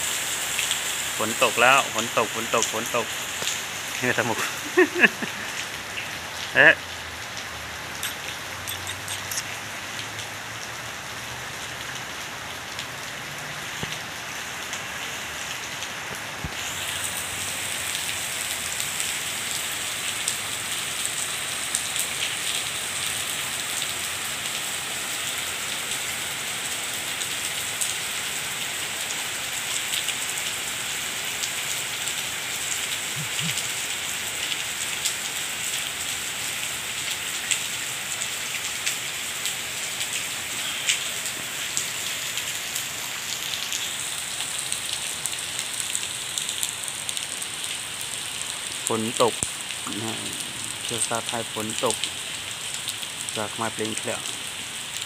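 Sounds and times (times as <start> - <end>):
rain on concrete and puddles: 0.0 - 55.0.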